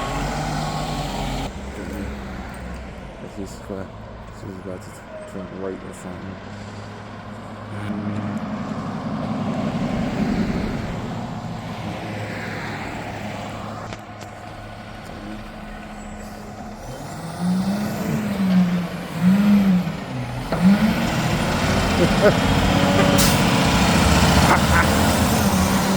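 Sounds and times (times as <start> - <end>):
garbage truck diesel engine: 0.0 - 25.9.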